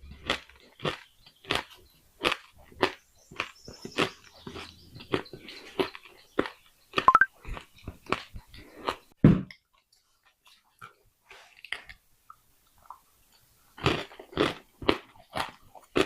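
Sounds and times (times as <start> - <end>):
crunching and chewing: 0.0 - 16.0.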